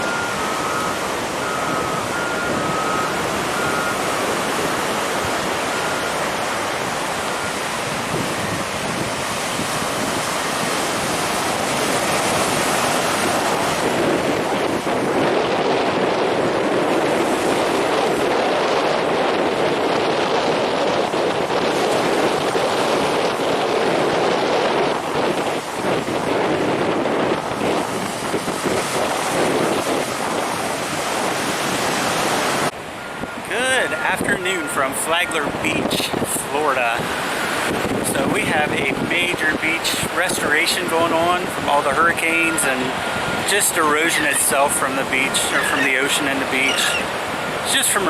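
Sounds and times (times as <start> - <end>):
wind buffeting microphone: 0.0 - 47.8
ocean surf breaking: 0.0 - 48.0.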